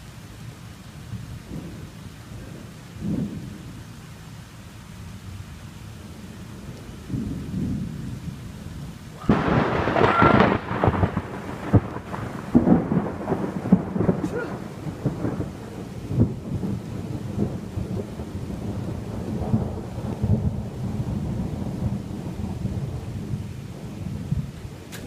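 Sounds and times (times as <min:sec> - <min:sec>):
thunder rumbling and cracking: 0:01.1 - 0:03.8, 0:06.0 - 0:25.0.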